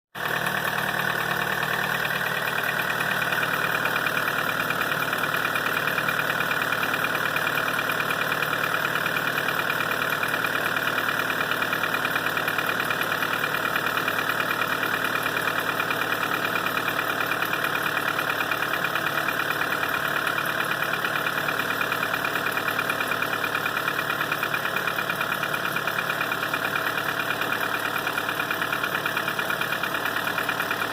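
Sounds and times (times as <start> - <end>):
car engine idling: 0.2 - 30.9.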